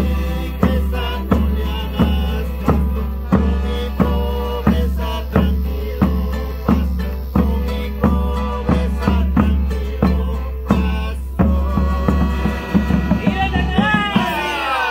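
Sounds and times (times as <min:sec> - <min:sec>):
deep bass: 0:00.0 - 0:14.3
steady drum beat: 0:00.0 - 0:14.9
wavering folk melody: 0:00.0 - 0:14.9.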